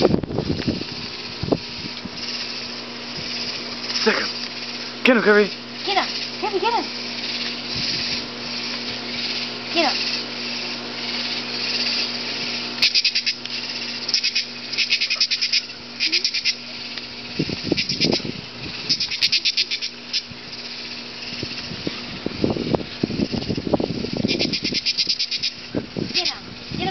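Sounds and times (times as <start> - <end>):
high hiss of insects: 0.0 - 26.9
katydid buzzy pulses: 0.0 - 26.9.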